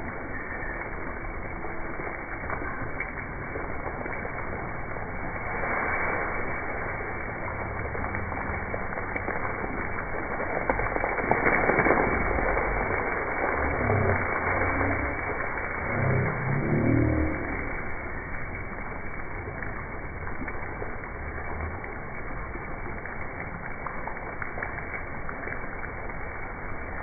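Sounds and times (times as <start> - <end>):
low rumble: 0.0 - 27.0
water spraying and splashing: 0.0 - 27.0.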